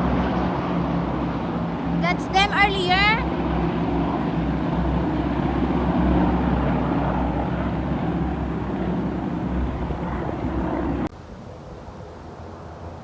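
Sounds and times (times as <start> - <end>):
aircraft engine rumble: 0.0 - 13.0.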